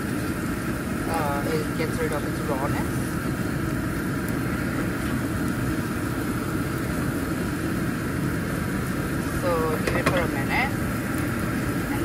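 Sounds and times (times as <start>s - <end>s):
kitchen exhaust fan running: 0.0s - 12.0s.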